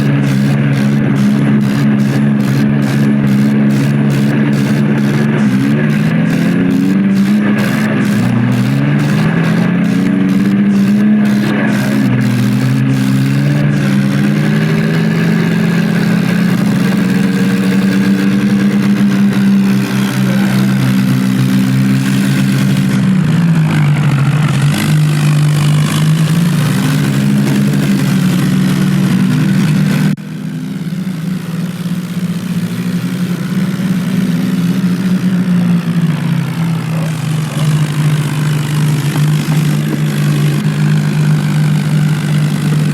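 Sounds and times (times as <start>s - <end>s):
diesel tractor engines under load: 0.0s - 42.9s.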